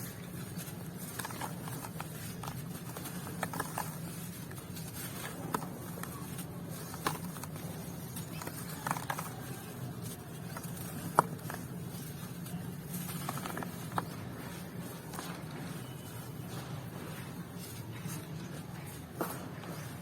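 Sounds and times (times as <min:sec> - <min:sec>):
dry clumps crumbling: 0:00.0 - 0:20.0.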